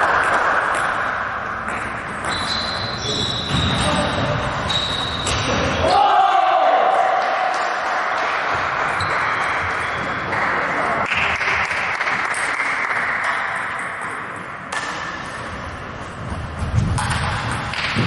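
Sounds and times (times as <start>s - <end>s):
sports hall noise: 0.0s - 18.0s.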